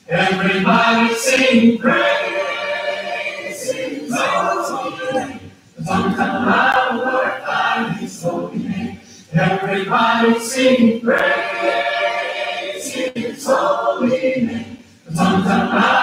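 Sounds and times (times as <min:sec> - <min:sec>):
voices singing worship song: 0:00.0 - 0:16.0.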